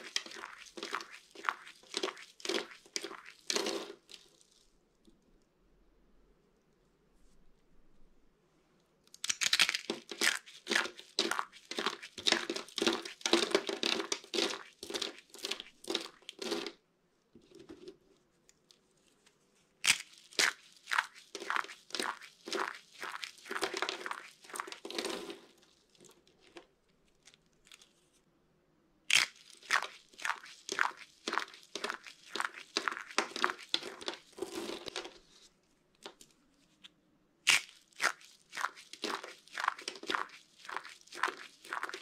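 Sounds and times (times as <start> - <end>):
soap curls crackling in hands: 0.0 - 5.3, 9.1 - 16.8, 17.4 - 28.3, 29.1 - 42.0.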